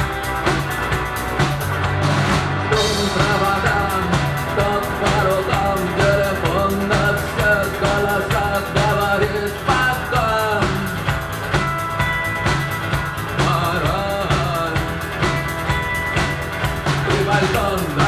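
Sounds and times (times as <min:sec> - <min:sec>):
bass guitar: 0:00.0 - 0:18.0
drum kit beat: 0:00.0 - 0:18.0.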